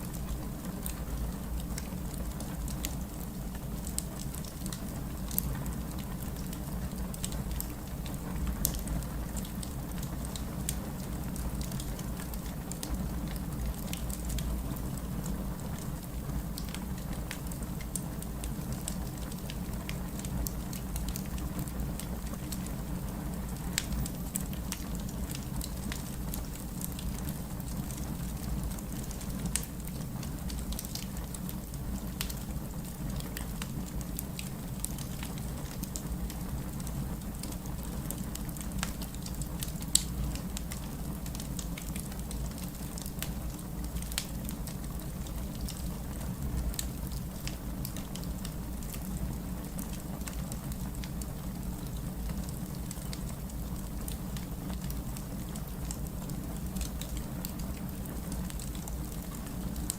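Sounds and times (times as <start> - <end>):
fireplace crackling and popping: 0.0 - 59.9
low fire rumble: 0.0 - 59.9.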